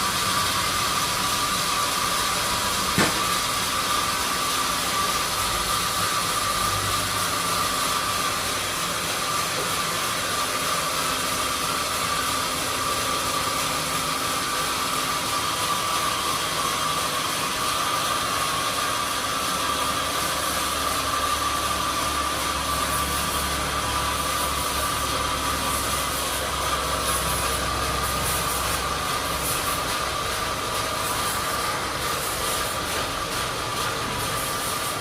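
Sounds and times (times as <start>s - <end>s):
sawmill saw whining: 0.0s - 35.0s.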